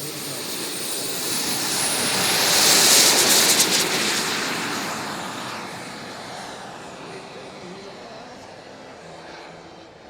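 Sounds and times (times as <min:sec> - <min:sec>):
model jet turbine flypast: 0:00.0 - 0:10.0.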